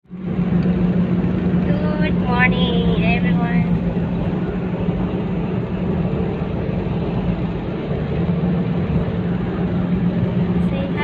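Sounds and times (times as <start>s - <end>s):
road noise: 0.0s - 11.0s
vehicle engine hum: 0.0s - 11.0s.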